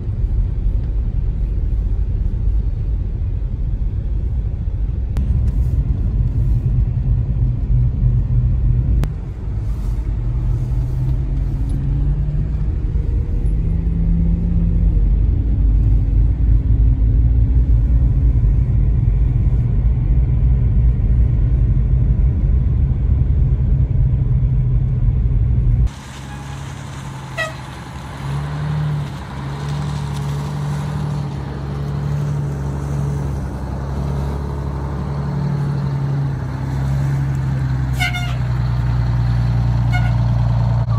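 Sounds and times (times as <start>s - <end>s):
diesel bus engine rumbling: 0.0s - 40.9s.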